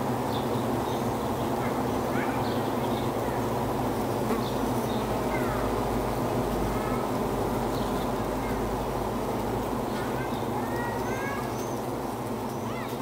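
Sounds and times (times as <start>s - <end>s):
bees swarm buzzing: 0.0s - 13.0s.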